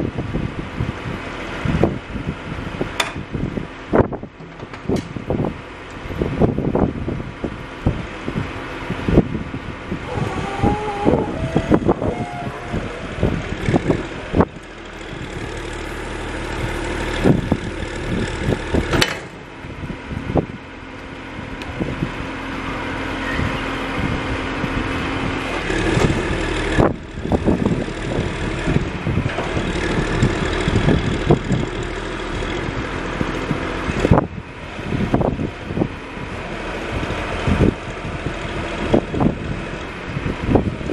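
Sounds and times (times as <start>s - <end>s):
backhoe diesel engine running: 0.0s - 40.9s
hydraulics hum: 0.0s - 40.9s.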